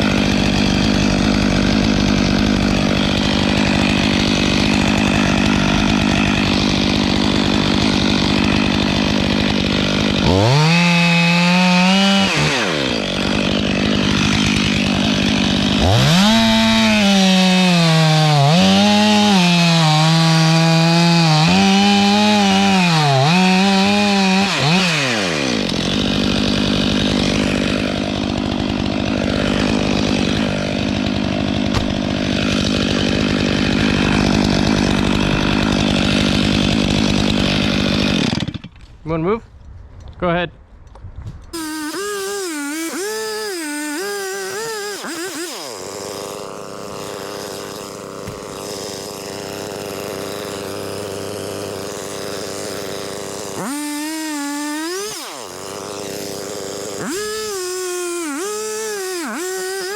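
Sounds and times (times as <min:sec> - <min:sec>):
chainsaw idling and revving: 0:00.0 - 0:38.8, 0:41.5 - 0:59.9
chainsaw cutting wood: 0:00.0 - 0:39.0, 0:41.5 - 0:59.9.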